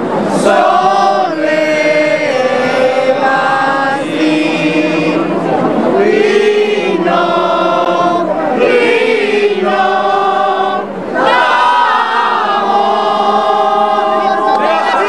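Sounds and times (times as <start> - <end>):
group singing religious song: 0.0 - 15.0.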